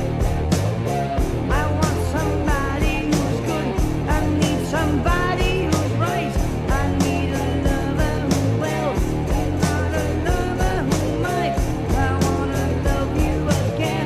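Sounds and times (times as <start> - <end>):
hard rock band playing: 0.0 - 14.0
person singing: 1.4 - 14.0.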